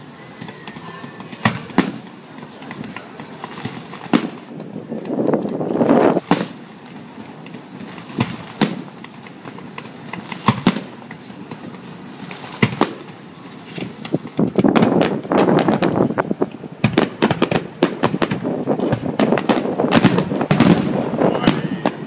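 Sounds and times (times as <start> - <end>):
faint crackling: 0.0 - 17.8
fireworks bangs: 0.0 - 22.0
rushing firework noise: 0.0 - 22.0.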